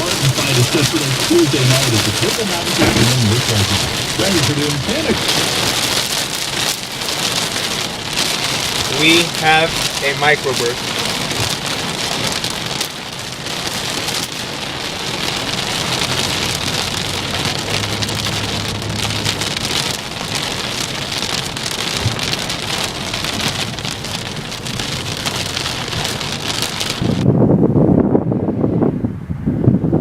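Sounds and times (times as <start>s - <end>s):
heavy rain pouring: 0.0s - 27.3s.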